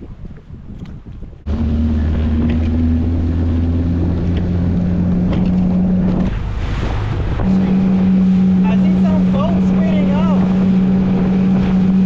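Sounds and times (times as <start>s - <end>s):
outboard motor drone: 0.0s - 12.0s
wind: 0.0s - 12.0s
water rushing: 1.4s - 12.0s.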